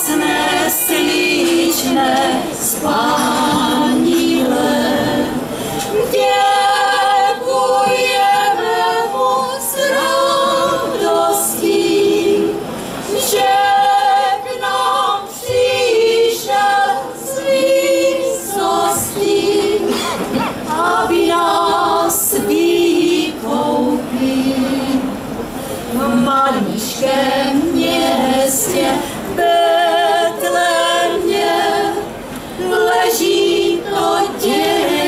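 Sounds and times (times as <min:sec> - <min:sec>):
women's choir singing a carol: 0:00.0 - 0:35.0.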